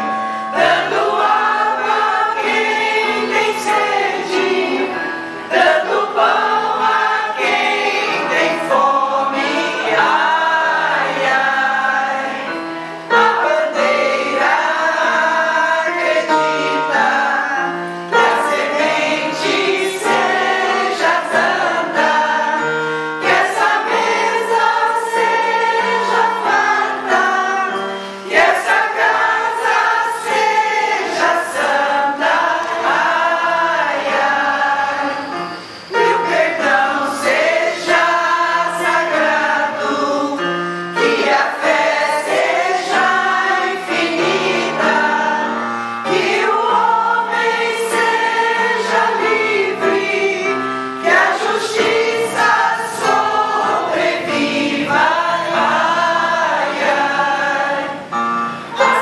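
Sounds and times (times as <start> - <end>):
choir singing: 0.0 - 59.0
electronic keyboard accompaniment: 0.0 - 59.0.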